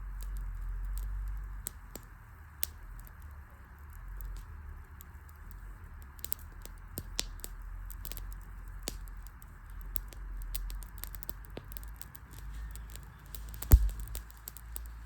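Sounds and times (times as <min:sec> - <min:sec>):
campfire crackling and popping: 0:00.0 - 0:15.0
low rumble and hiss of fire: 0:00.0 - 0:15.0.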